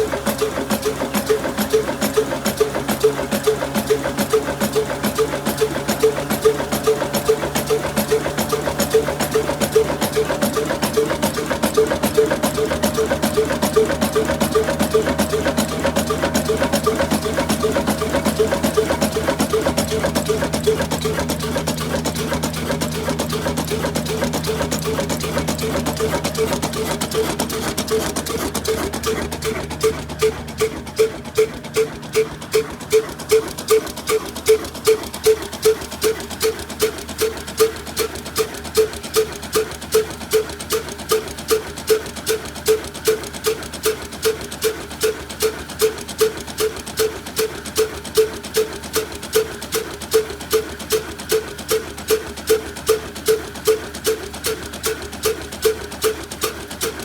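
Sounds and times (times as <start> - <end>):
old diesel engine knocking: 0.0 - 57.0.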